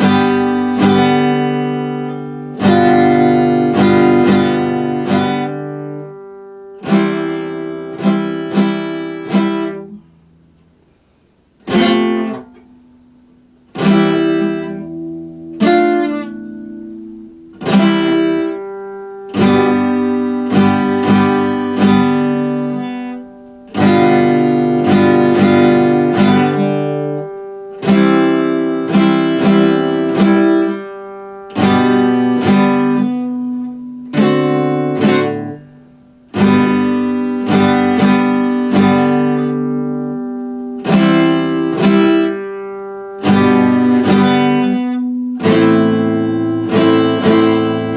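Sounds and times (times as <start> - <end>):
acoustic guitar strumming chords: 0.0 - 47.9.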